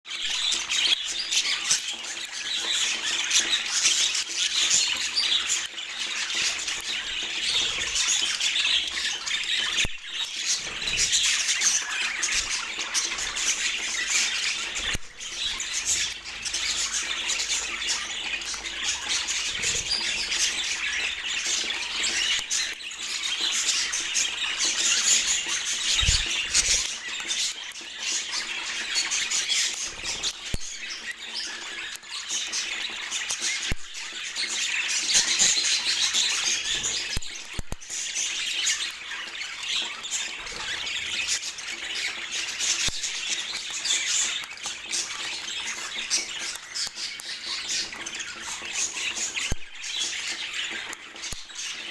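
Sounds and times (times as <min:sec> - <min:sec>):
budgerigars chattering and warbling: 0:00.1 - 0:51.9.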